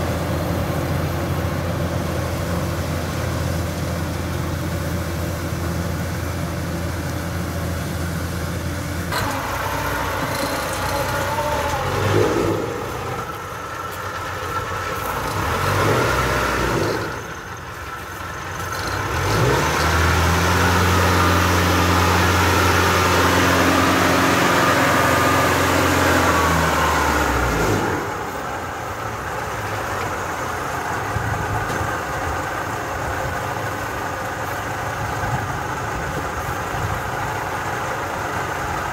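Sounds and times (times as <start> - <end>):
harvest machinery engines running: 0.0 - 38.9.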